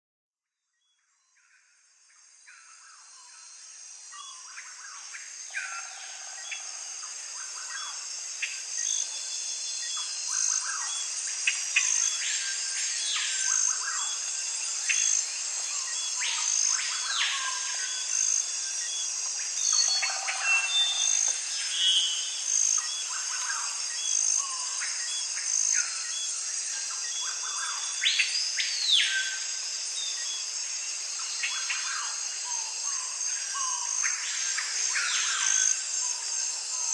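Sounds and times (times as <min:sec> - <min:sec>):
pulsing insect chorus: 0:01.3 - 0:36.9.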